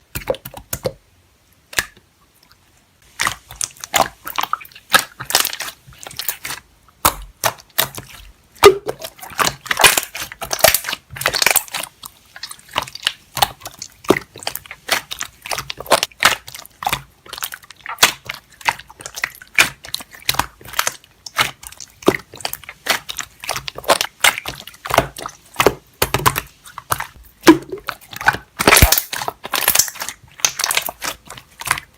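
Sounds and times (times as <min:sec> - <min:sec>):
slime squished by hand: 0:03.0 - 0:31.9.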